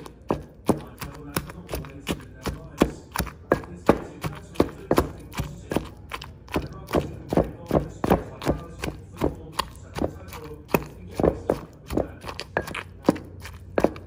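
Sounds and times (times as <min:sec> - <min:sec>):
wooden pestle pounding in mortar: 0:00.0 - 0:14.0.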